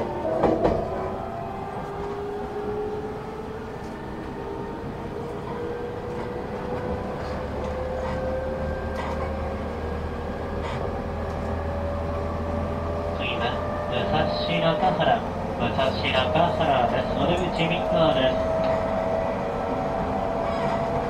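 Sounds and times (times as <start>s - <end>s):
train wheel and rail noise: 0.0s - 21.0s.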